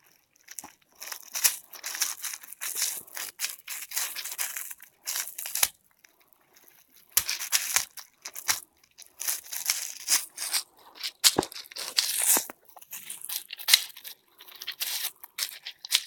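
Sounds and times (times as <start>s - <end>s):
pet chewing and tearing toy: 0.4s - 16.0s.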